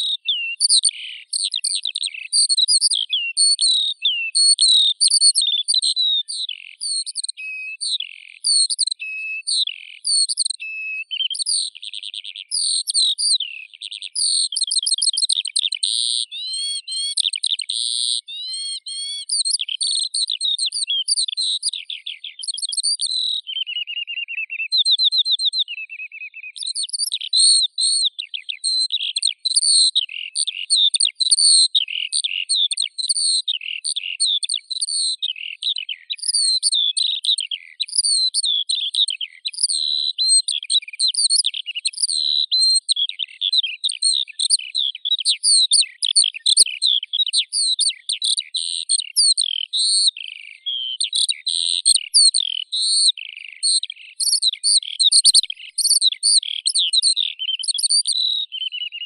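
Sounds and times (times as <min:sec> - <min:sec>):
skylark singing: 0:00.0 - 0:59.0.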